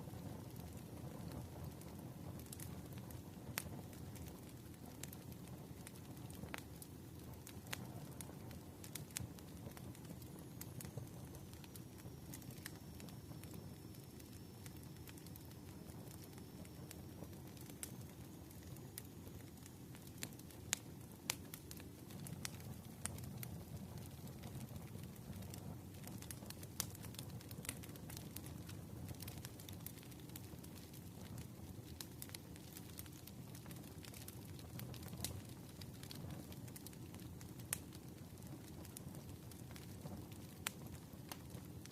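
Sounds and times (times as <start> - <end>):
fire crackling and popping: 0.0 - 41.9
low fire rumble: 0.0 - 41.9.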